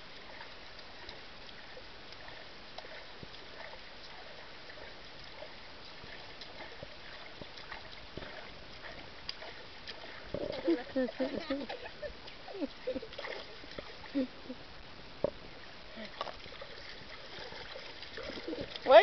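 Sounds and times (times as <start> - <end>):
small water splashes: 0.0 - 14.5, 15.4 - 19.0
pool water lapping: 0.0 - 14.8, 15.5 - 19.0.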